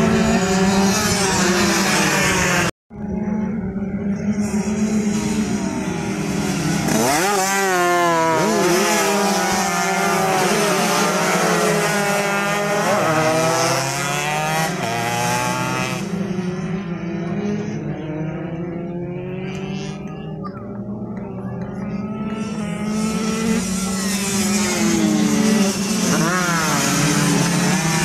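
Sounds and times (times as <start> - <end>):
racing motorcycles passing: 0.0 - 28.0.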